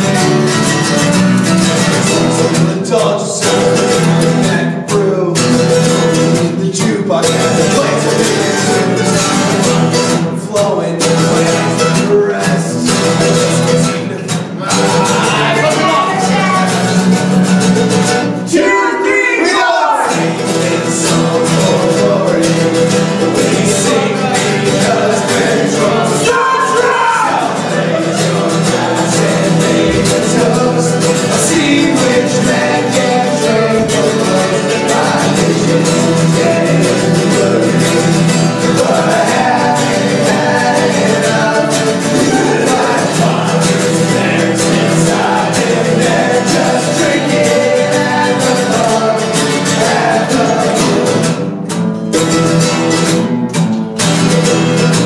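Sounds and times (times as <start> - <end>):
mandolin: 0.0 - 18.6, 27.4 - 55.0
men singing: 0.0 - 51.5
strummed acoustic guitars: 0.0 - 55.0.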